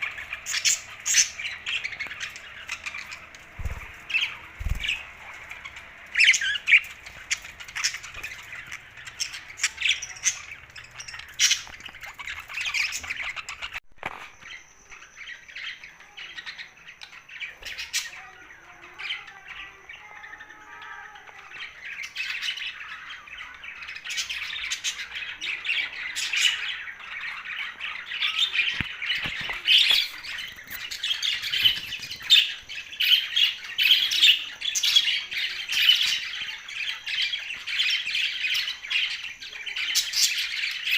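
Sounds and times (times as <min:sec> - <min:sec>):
budgerigars chirping and squawking: 0:00.0 - 0:13.8, 0:14.4 - 0:40.9.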